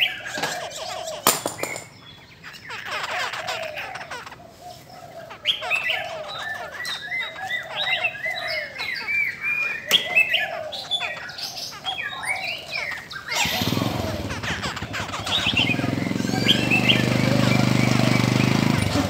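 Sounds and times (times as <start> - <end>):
birds singing warbling notes: 0.0 - 19.0.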